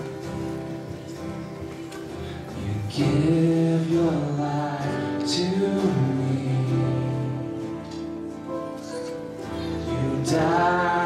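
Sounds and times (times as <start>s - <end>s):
person singing melody: 0.0s - 8.4s, 9.0s - 11.0s
worship band playing: 0.0s - 11.0s.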